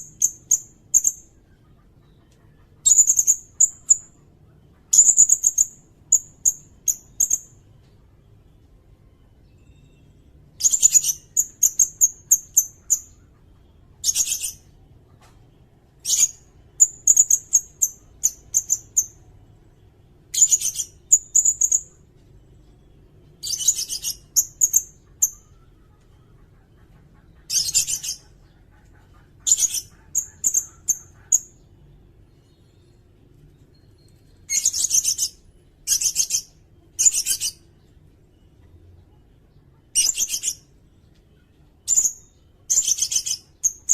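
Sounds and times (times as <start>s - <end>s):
bird singing: 0.0s - 43.9s.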